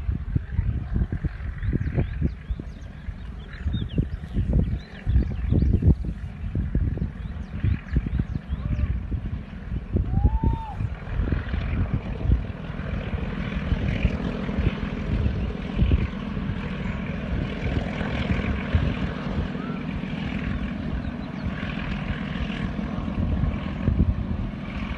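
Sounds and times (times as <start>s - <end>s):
wind on microphone: 0.0s - 24.9s.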